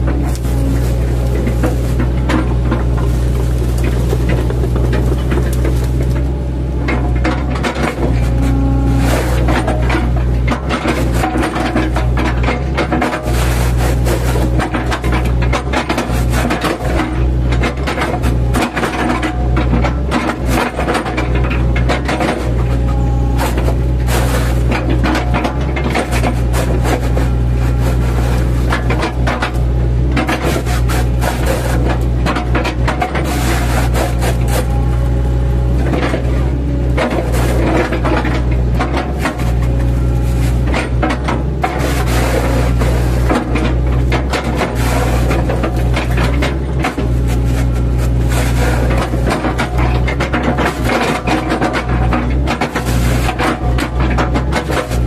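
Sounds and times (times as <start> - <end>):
excavator diesel engine running: 0.0 - 55.0
wood cracking and crunching: 0.0 - 55.0.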